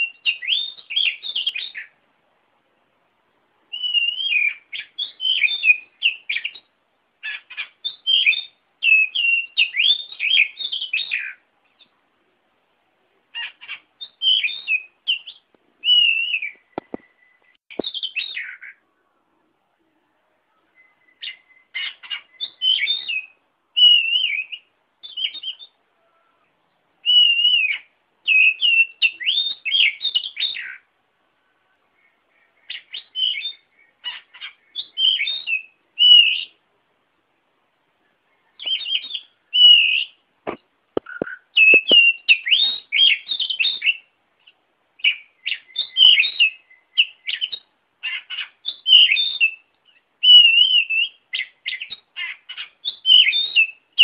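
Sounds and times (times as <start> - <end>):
bird singing whistles and chirps: 0.0 - 2.0, 3.7 - 11.9, 13.3 - 18.8, 20.5 - 26.4, 27.0 - 30.9, 32.0 - 36.6, 38.3 - 40.2, 41.0 - 54.0.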